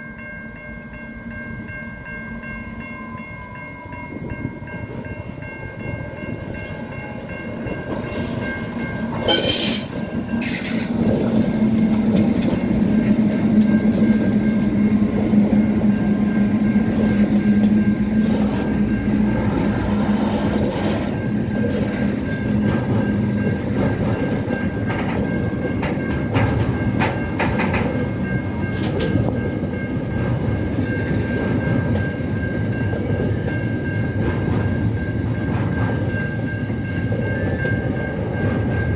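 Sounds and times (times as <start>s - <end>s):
train running on rails: 0.0s - 38.9s
wheels clacking on track: 6.0s - 38.9s.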